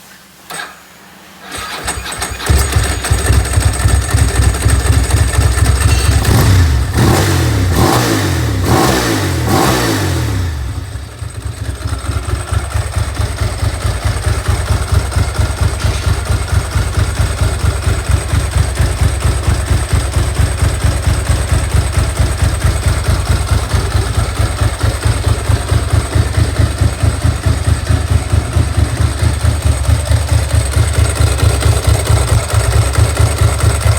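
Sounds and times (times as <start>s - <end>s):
motorcycle engine starting and revving: 0.5s - 33.9s.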